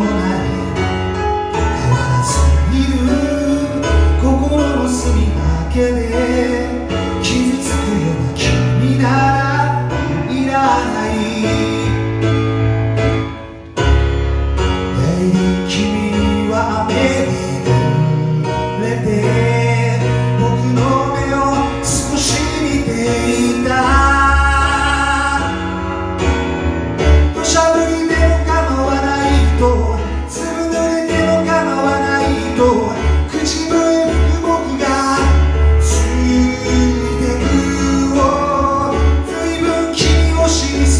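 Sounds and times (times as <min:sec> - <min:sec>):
man singing: 0:00.0 - 0:12.5, 0:14.9 - 0:26.3, 0:27.2 - 0:40.9
piano ballad through speakers: 0:00.0 - 0:40.9.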